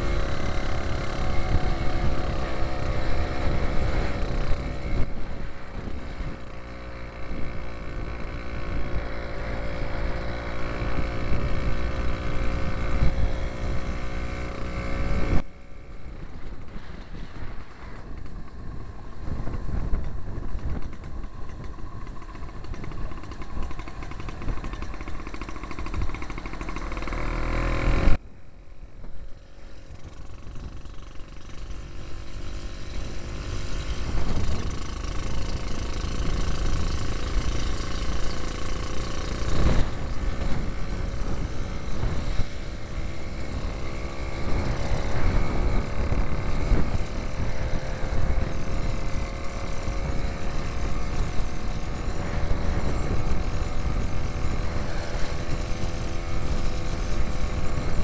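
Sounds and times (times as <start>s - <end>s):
two-stroke engine running: 0.0s - 28.2s, 29.2s - 58.0s.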